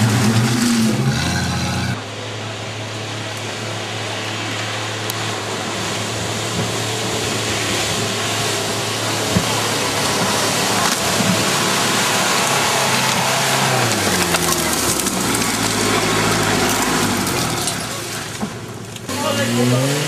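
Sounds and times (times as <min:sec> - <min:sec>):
off-road vehicle engine passing: 0:00.0 - 0:20.0.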